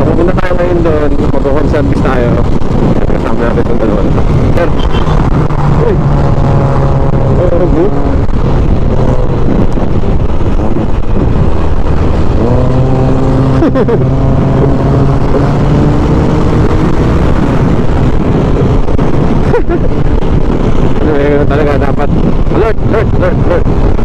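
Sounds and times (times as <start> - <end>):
passing traffic: 0.0 - 24.0
wind buffeting microphone: 0.0 - 24.0.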